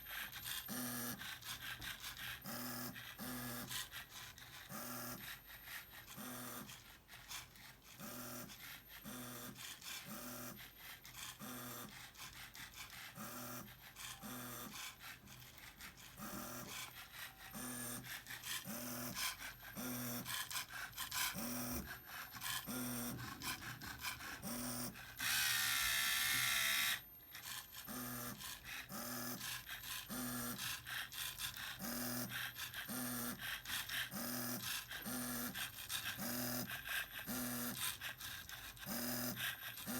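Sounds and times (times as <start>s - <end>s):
small electric motors whirring: 0.0s - 39.9s.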